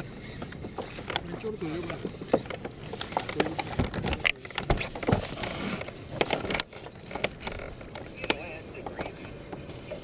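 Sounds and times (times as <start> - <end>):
waves slapping against kayak hull: 0.0 - 10.0.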